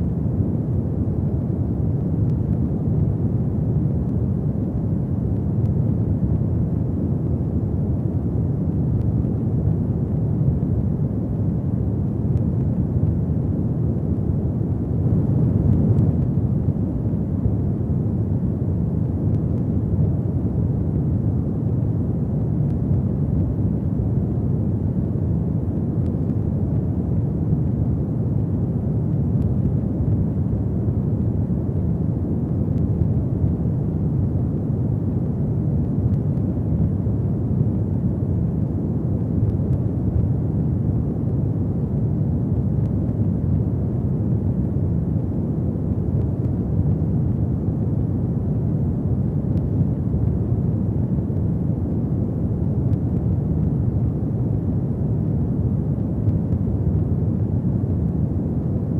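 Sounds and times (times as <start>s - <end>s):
fireplace fire rumbling and crackling: 0.0s - 58.9s.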